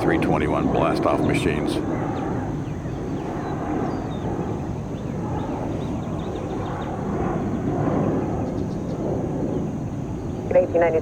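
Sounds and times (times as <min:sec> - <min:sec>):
jet engines rumbling: 0:00.0 - 0:11.0
small birds chirping: 0:00.6 - 0:11.0.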